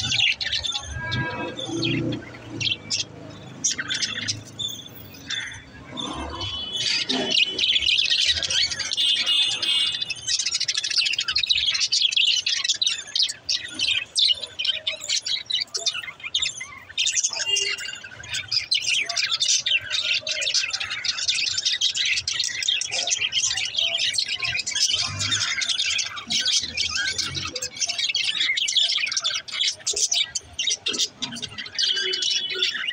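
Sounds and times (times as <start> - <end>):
budgerigars chirping: 0.0 - 32.9.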